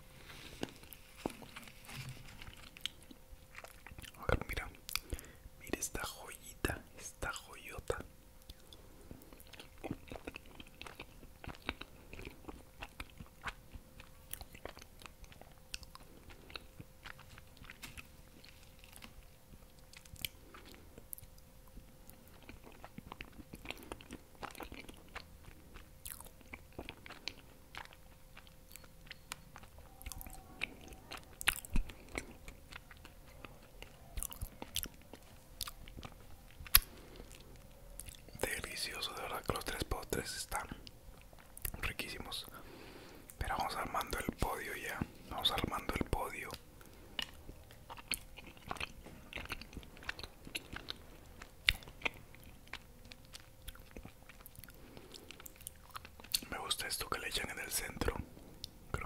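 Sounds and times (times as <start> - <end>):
person chewing: 0.2 - 5.4, 7.6 - 59.0.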